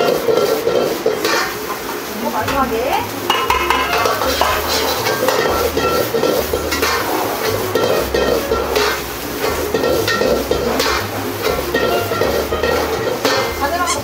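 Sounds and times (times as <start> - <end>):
fried rice sizzling in a wok: 0.0 - 14.0
metal ladle scraping a wok: 0.0 - 14.0.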